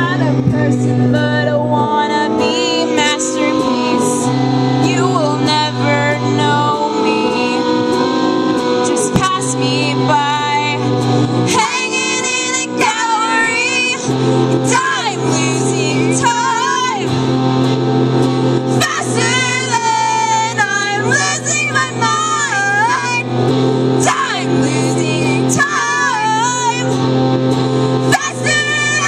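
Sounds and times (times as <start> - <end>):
women singing: 0.0 - 7.9, 8.8 - 10.9, 11.5 - 17.2, 18.7 - 23.3, 24.0 - 27.0, 28.1 - 29.0
electric guitar: 0.0 - 29.0
electronic keyboard low notes: 0.0 - 29.0.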